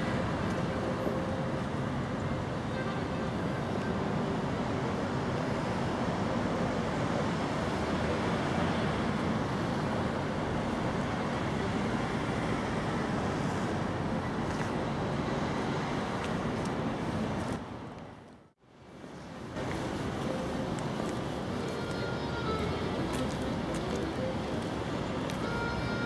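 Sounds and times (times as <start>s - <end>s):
outdoor town ambience rumble: 0.0s - 26.0s.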